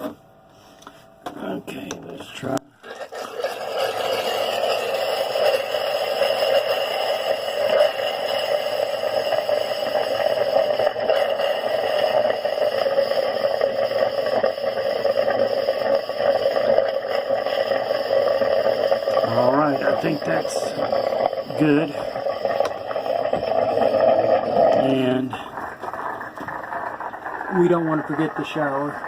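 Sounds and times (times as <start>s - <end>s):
compressed air rushing through pipes: 2.8s - 29.0s.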